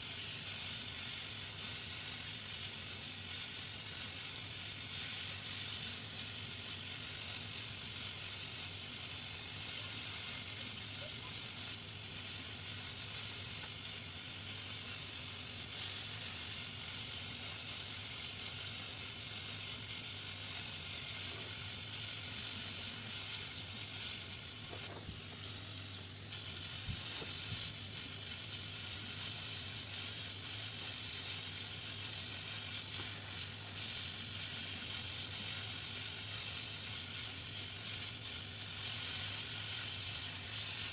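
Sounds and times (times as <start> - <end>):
hot-air station hissing: 0.0 - 40.9.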